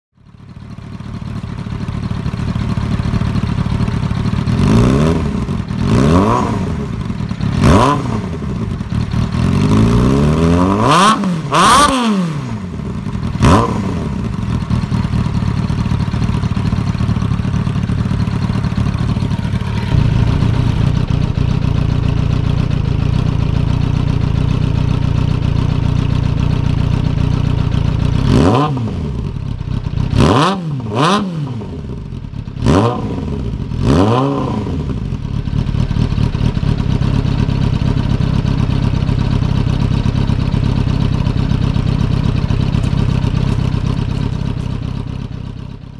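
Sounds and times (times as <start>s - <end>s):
motorcycle engine revving: 0.3s - 45.9s.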